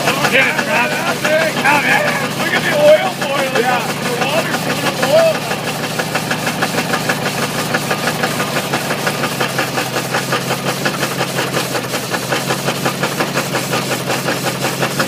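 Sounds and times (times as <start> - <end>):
engine running with rapid knock: 0.0 - 15.0.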